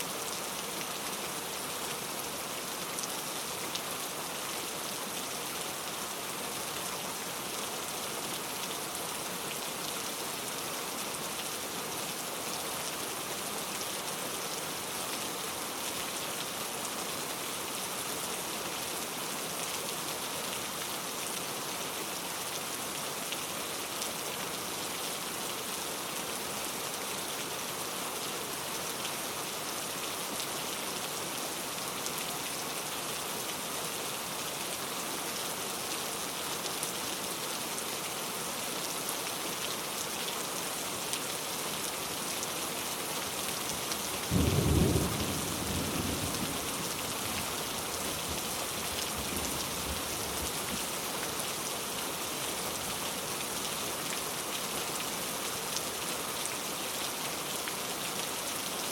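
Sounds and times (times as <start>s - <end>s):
heavy rain on a surface: 0.0s - 58.9s.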